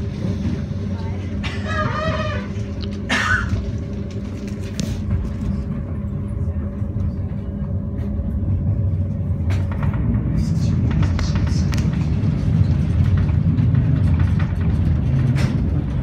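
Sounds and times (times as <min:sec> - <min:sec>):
faint hum: 0:00.0 - 0:16.0
train rumbling on rails: 0:00.0 - 0:16.0.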